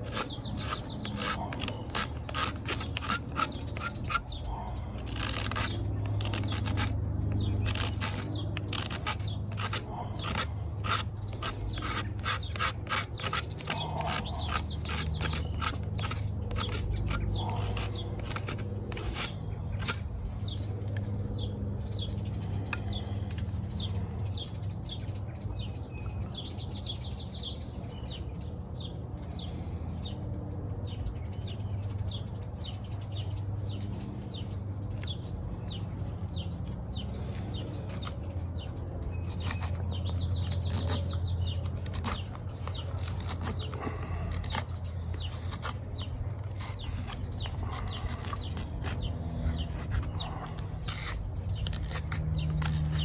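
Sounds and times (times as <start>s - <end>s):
knife scraping wood: 0.0s - 24.2s, 33.8s - 53.0s
birds chirping: 0.0s - 53.0s.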